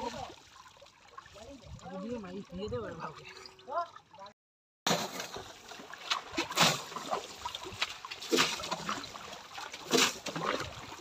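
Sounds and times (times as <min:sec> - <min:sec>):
people wading in water: 0:00.0 - 0:11.0
water splashing: 0:00.0 - 0:11.0.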